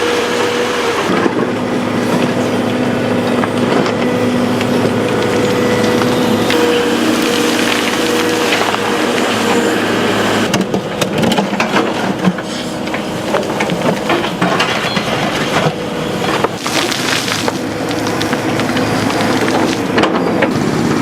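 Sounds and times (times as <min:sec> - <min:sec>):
excavator engine running: 0:00.0 - 0:21.0
stone and concrete crunching: 0:01.1 - 0:09.6, 0:10.4 - 0:20.2.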